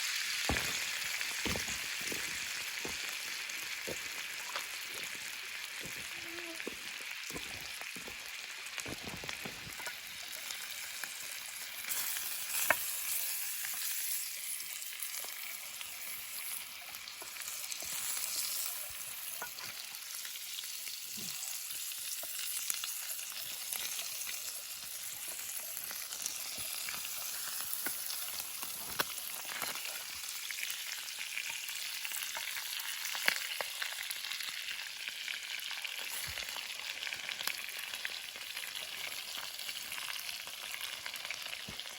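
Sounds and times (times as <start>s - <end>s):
ribs sizzling in a frying pan: 0.0s - 41.9s.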